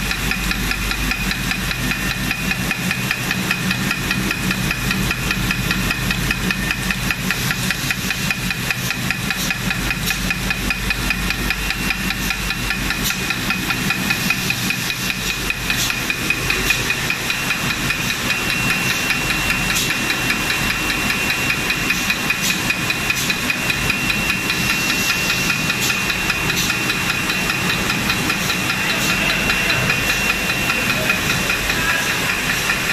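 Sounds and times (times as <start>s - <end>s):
labeling machine clatter: 0.0s - 32.9s
machine hum: 0.0s - 32.9s.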